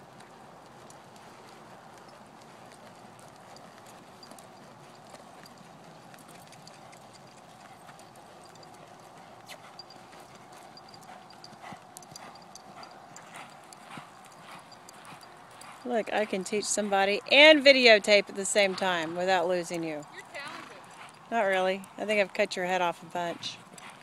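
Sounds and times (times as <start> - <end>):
horse hoofbeats on sand: 0.0 - 24.0.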